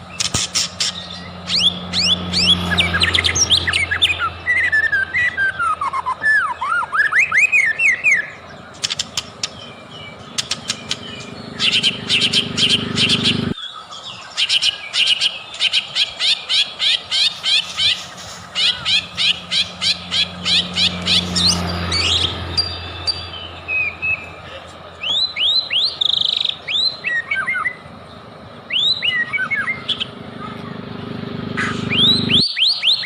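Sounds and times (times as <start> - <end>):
bird singing sharp whistled notes: 0.1 - 24.4, 28.7 - 30.1, 31.6 - 33.0.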